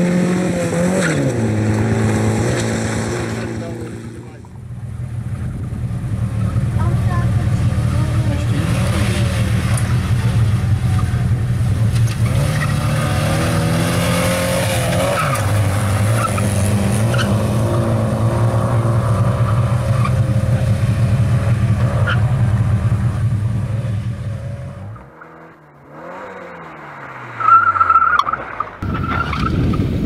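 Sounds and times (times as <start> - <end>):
rally car engine running hard: 0.0 - 27.1.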